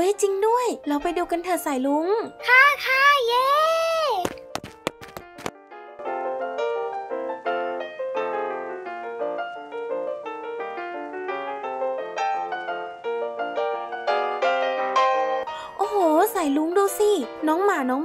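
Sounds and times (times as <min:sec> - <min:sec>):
light piano tune: 0:00.0 - 0:02.5, 0:03.7 - 0:18.0.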